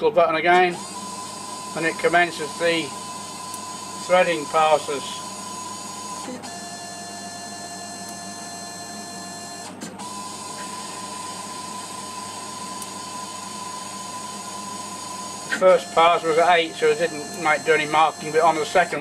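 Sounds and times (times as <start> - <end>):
lathe steady electric whine: 0.6 - 19.0.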